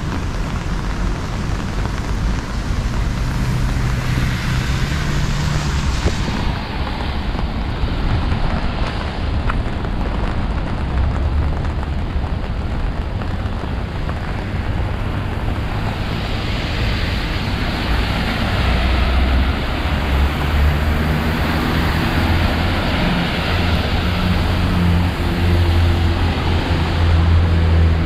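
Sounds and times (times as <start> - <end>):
heavy rain falling: 0.0 - 28.0
wind buffeting microphone: 0.0 - 28.0.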